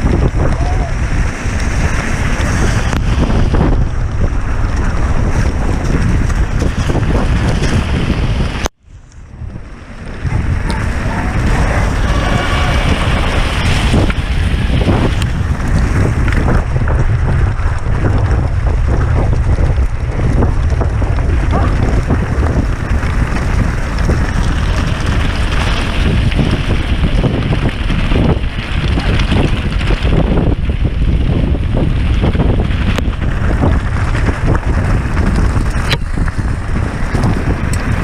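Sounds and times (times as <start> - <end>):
bike rattles and knocks: 0.0 - 8.6, 9.2 - 38.0
wind buffeting microphone: 0.0 - 38.0.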